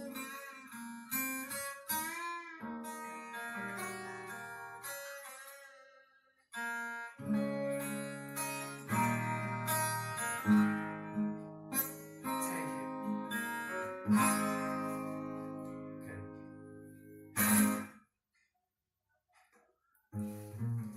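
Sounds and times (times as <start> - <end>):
acoustic guitar strumming: 0.0 - 18.0, 20.2 - 20.9.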